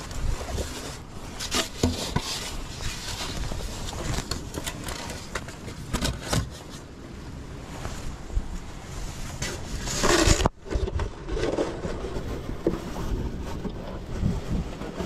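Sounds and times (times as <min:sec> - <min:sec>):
branches rustling: 0:00.0 - 0:15.0.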